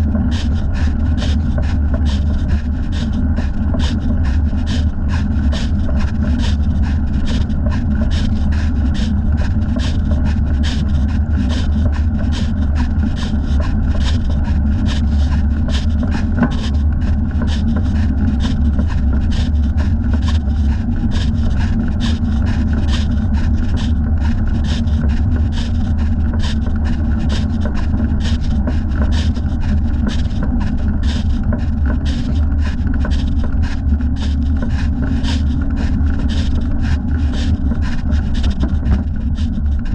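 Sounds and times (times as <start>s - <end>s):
rhythmic scraping rub: 0.0s - 39.9s.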